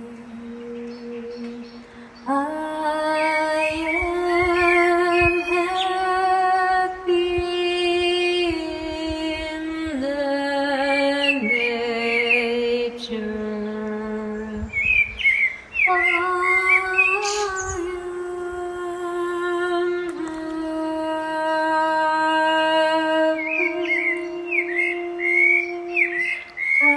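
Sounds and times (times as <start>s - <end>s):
slow music of held notes: 0.0s - 14.8s, 15.9s - 26.9s
birds chirping: 0.0s - 26.9s.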